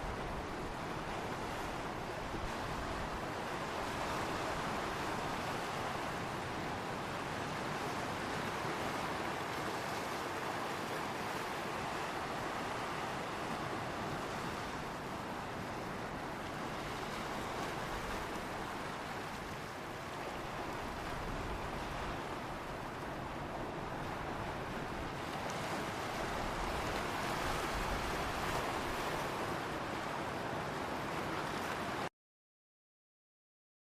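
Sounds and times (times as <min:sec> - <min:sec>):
ocean surf rushing: 0:00.0 - 0:32.1.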